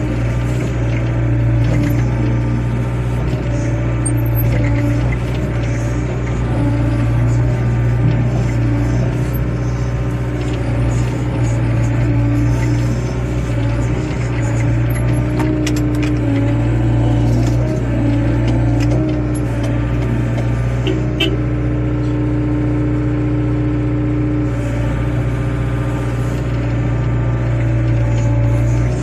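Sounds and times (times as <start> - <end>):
excavator diesel engine running: 0.0 - 29.0
hydraulic whine: 0.0 - 29.0.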